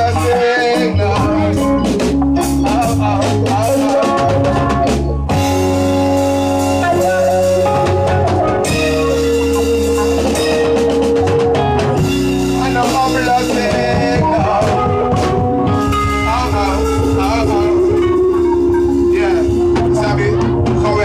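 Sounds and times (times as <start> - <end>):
deep bass line: 0.0 - 21.0
drum kit: 0.0 - 21.0
held keyboard chords: 0.0 - 21.0
reggae band playing: 0.0 - 21.0.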